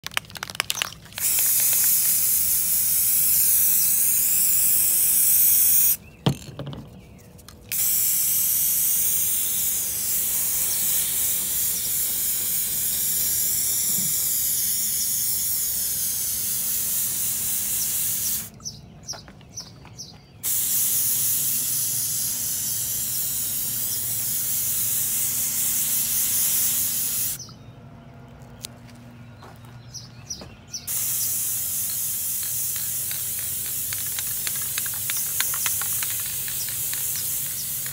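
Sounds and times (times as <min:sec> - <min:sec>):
spray paint can hissing: 0:00.0 - 0:06.0, 0:07.7 - 0:18.5, 0:20.4 - 0:27.4, 0:30.9 - 0:37.9.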